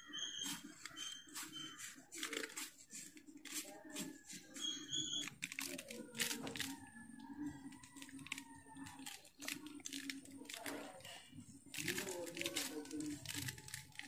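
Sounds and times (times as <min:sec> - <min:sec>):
crackling clicks of hands mixing salt: 0:00.0 - 0:14.0.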